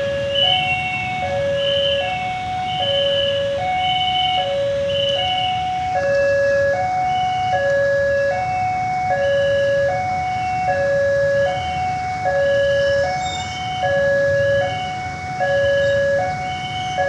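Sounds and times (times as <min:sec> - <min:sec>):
idling motorcycles and traffic: 0:00.0 - 0:17.0
two-tone crossing alarm: 0:00.0 - 0:17.0.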